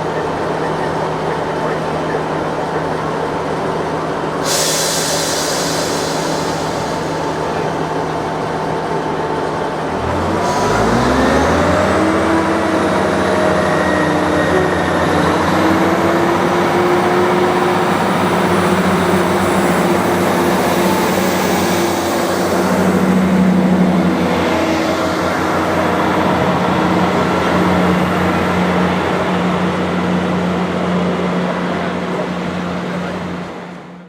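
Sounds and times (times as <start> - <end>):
diesel train engine revving: 0.0 - 34.0.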